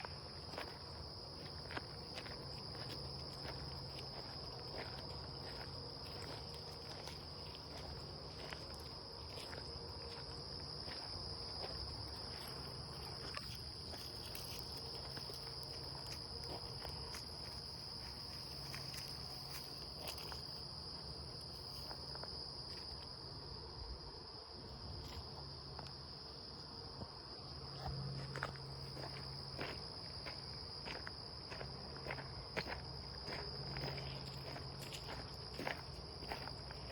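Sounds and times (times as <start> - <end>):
footsteps crunching on trail: 0.0 - 23.3, 26.8 - 36.9
crickets chirping: 0.0 - 36.9.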